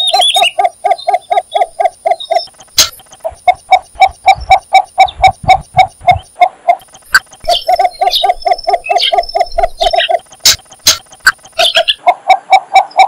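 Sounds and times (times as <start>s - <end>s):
bird calling low notes: 0.0s - 13.0s.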